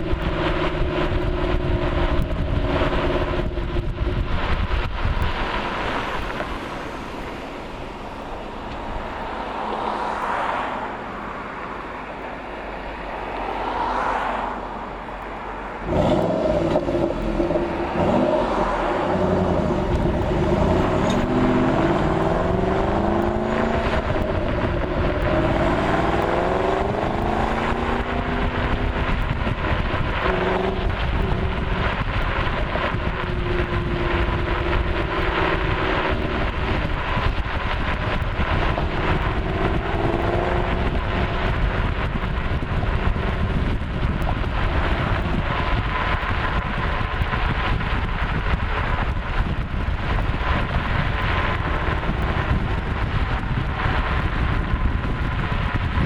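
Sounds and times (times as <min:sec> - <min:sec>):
car engine and exhaust: 0:00.0 - 0:56.0
road and wind noise: 0:00.0 - 0:56.0.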